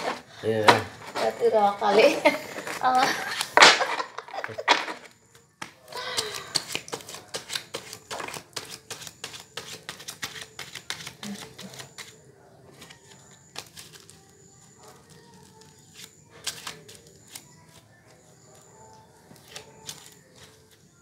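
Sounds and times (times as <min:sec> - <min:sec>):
playing cards being shuffled: 0:02.0 - 0:17.9, 0:19.3 - 0:20.8.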